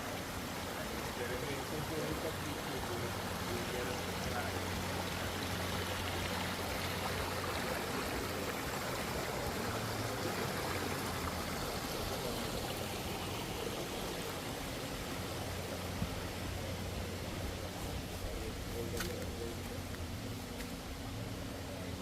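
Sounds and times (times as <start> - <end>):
flowing water rushing: 0.0 - 22.0
low steady hum: 0.0 - 22.0.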